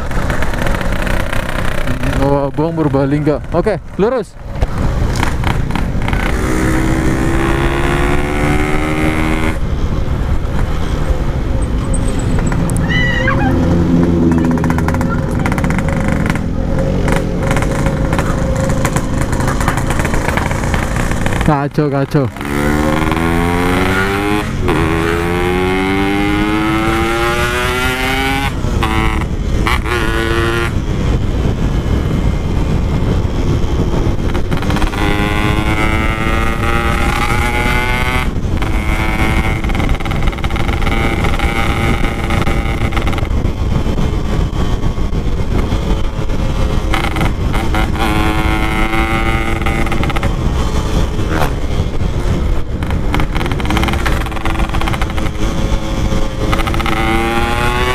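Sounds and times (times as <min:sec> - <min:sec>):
two-stroke motorcycle revving through gears: 0:00.0 - 0:12.8, 0:13.6 - 0:57.9.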